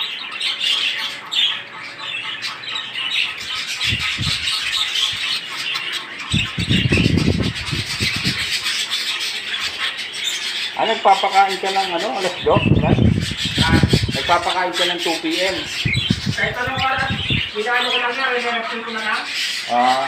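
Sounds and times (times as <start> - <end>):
budgerigars chattering and squawking: 0.0 - 20.0.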